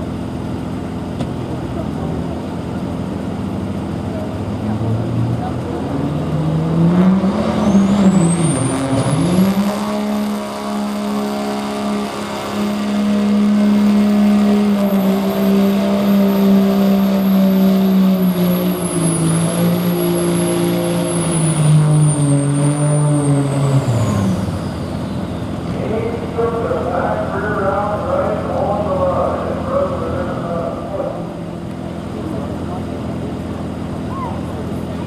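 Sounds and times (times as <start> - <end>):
diesel engine at high revs: 0.0 - 35.0.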